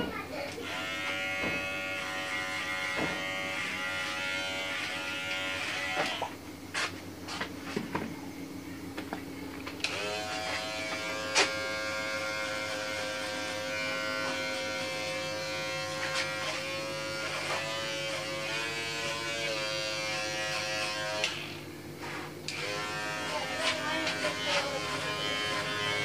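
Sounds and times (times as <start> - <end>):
electric hair clipper buzzing: 0.5 - 6.4, 9.8 - 26.0.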